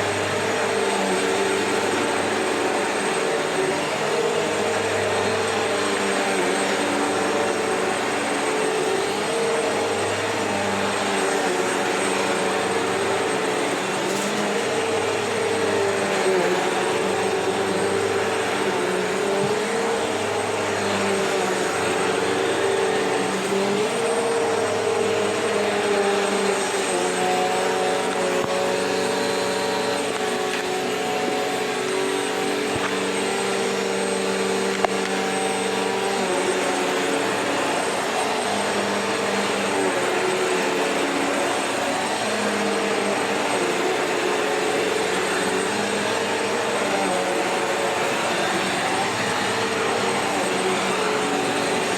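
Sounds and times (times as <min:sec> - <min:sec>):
vacuum cleaner running on carpet: 0:00.0 - 0:51.9.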